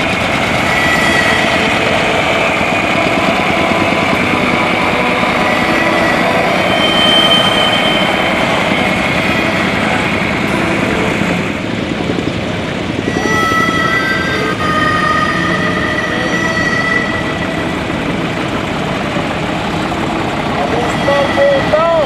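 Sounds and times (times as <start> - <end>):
high whining tones: 0.0 - 22.0
tractor engines running: 0.0 - 22.0.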